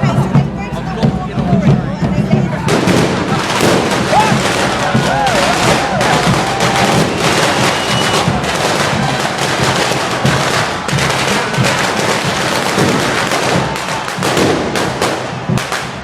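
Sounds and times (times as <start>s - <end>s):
firecrackers crackling and banging: 0.0s - 16.0s.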